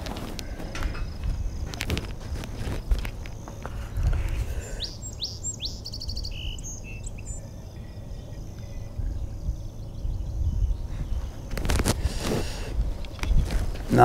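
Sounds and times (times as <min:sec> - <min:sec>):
birds chirping: 0:00.0 - 0:14.0
low background noise: 0:00.0 - 0:14.0.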